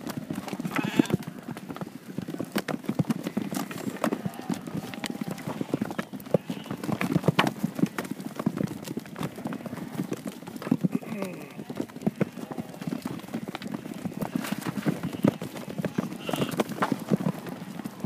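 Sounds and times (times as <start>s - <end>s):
sheep hooves clattering on dirt: 0.0s - 18.0s.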